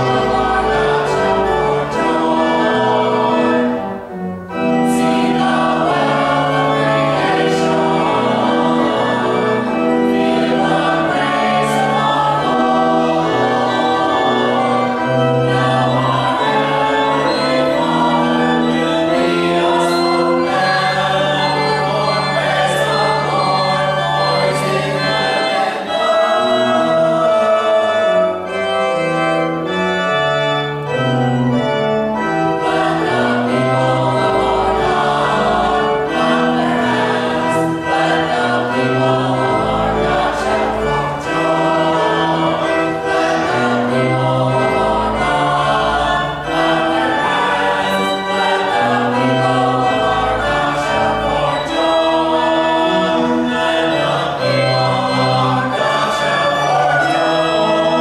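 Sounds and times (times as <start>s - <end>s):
choir singing: 0.0s - 58.0s
pipe organ: 0.0s - 58.0s.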